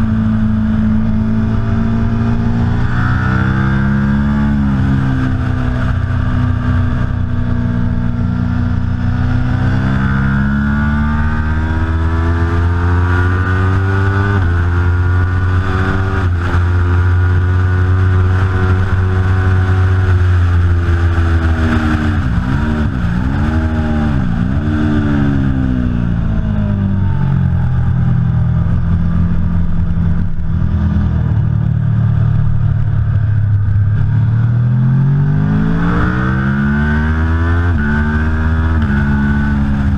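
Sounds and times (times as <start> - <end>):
motorcycle engine revving at speed: 0.0 - 39.9.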